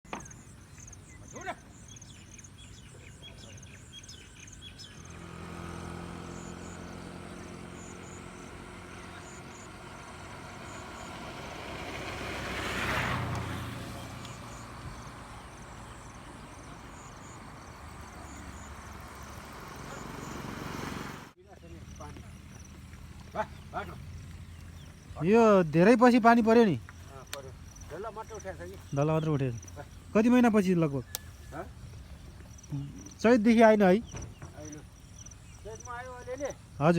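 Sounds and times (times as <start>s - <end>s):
birds chirping: 0.0s - 36.9s
vehicle passing: 4.0s - 36.9s
low motor hum: 4.1s - 36.8s.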